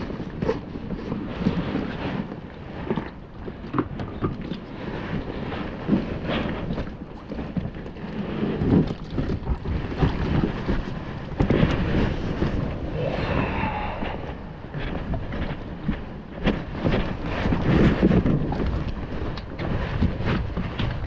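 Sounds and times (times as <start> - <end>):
water splashing and lapping: 0.0 - 21.0
wind buffeting microphone: 0.0 - 21.0.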